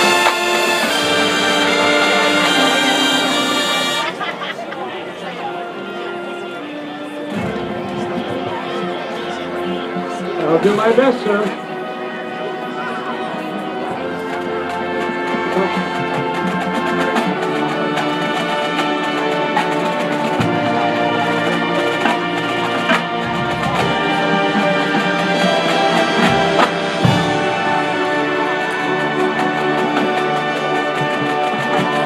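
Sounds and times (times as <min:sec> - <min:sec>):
marching band playing: 0:00.0 - 0:32.0.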